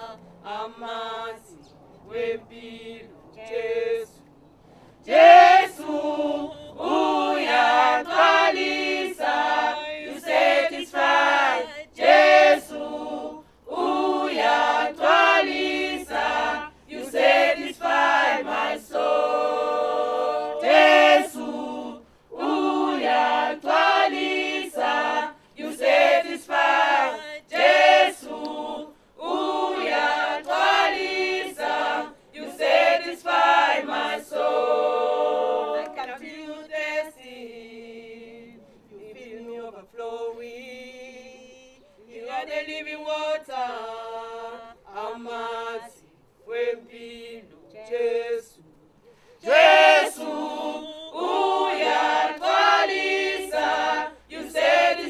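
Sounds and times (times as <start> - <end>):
small choir singing unaccompanied: 0.0 - 55.0.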